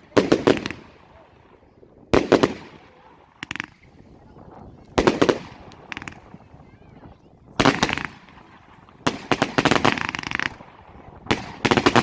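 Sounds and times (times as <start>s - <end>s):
fireworks cake firing bangs: 0.0s - 1.3s, 2.0s - 12.0s.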